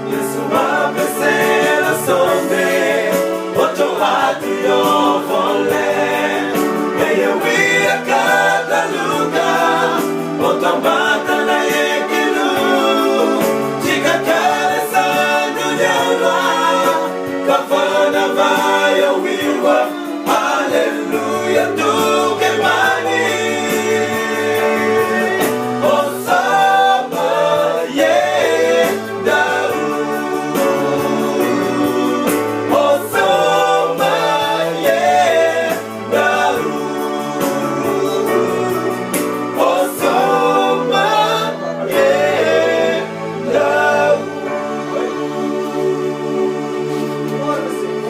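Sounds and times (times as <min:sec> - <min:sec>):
vocal quartet singing in harmony: 0:00.0 - 0:48.0.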